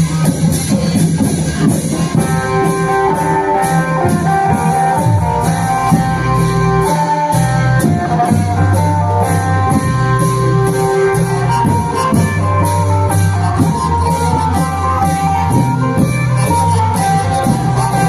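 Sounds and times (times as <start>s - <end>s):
long-drum ensemble playing: 0.0s - 18.0s.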